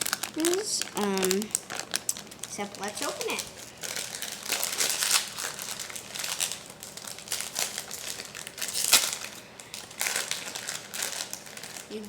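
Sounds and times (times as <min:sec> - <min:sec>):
toy packaging crinkling: 0:00.0 - 0:12.0.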